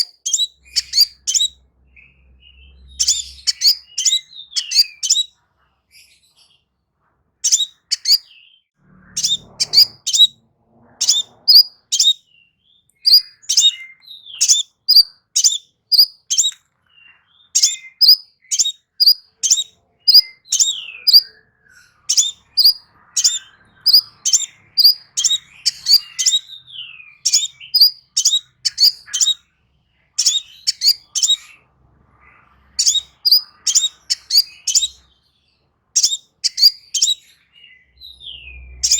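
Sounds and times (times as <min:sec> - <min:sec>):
bird chirping: 0:00.0 - 0:06.7, 0:07.4 - 0:38.9.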